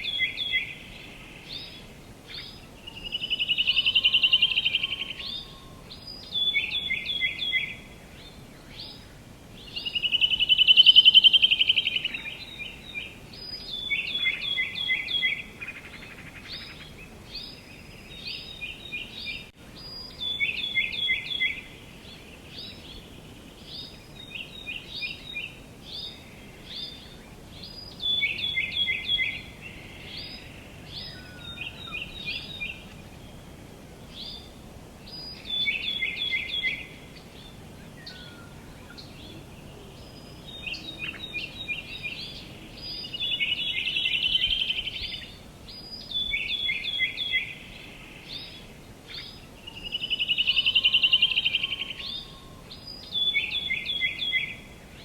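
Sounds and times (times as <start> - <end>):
faint outdoor hiss: 0.0 - 55.0
songbirds chirping: 0.0 - 55.0.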